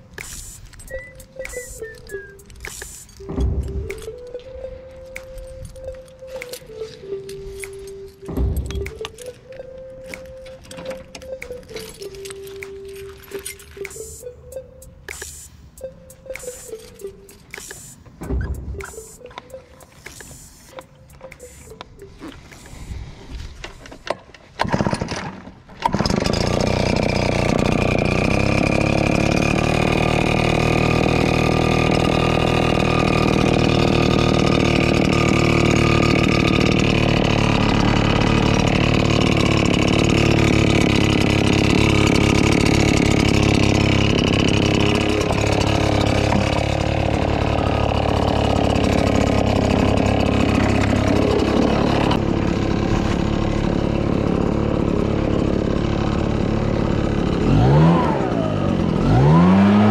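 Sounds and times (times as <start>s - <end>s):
leaf blower engine starting and running: 5.8s - 14.5s, 16.3s - 59.9s.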